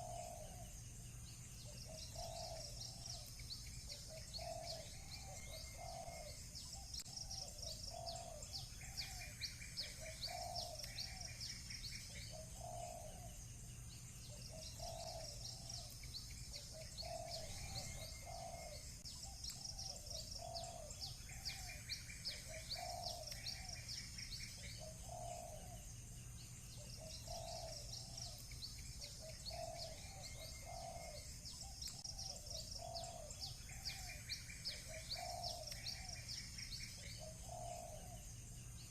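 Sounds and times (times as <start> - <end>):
dove cooing: 0.0 - 0.7, 1.6 - 13.4, 14.3 - 25.8, 26.8 - 38.2
bird trills: 0.0 - 38.9
birds chirping: 0.0 - 38.9.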